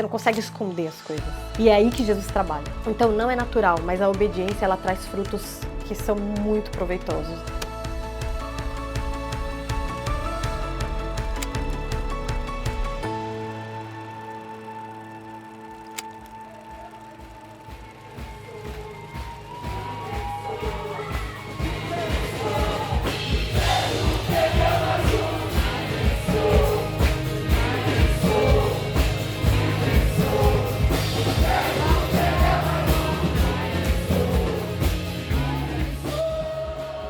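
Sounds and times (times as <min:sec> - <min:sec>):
music with singing and beat: 0:00.0 - 0:13.0, 0:16.6 - 0:37.0.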